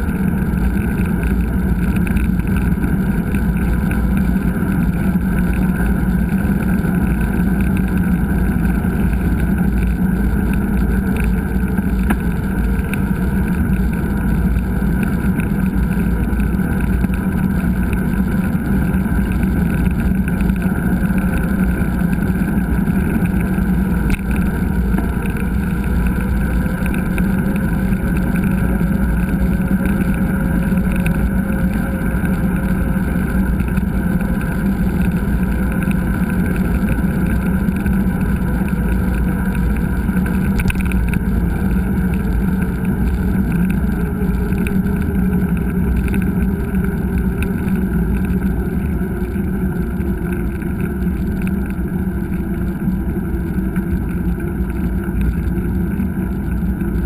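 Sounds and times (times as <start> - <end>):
bike tyres on trail: 0.0 - 57.0
wind noise: 0.0 - 57.0.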